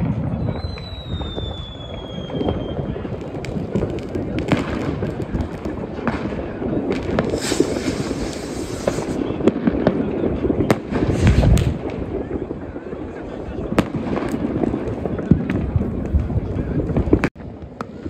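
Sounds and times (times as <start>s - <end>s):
fireworks bangs and pops: 0.0s - 18.0s
hissing crackle: 0.0s - 18.0s.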